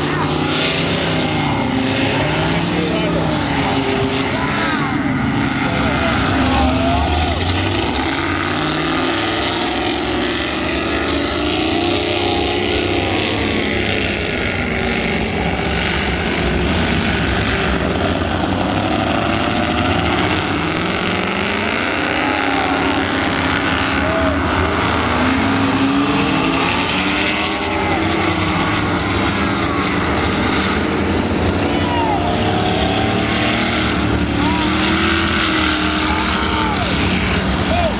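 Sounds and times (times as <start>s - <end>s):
powerboat engines passing: 0.0s - 37.9s
rush of wake and spray: 0.0s - 37.9s.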